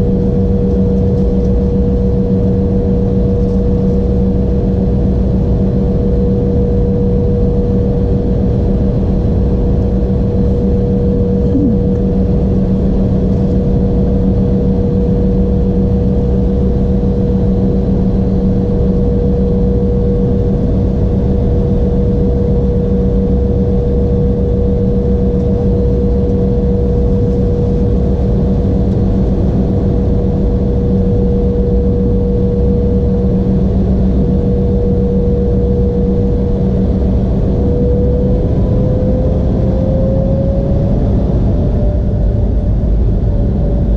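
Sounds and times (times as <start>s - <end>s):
jet engines droning in cabin: 0.0s - 43.9s.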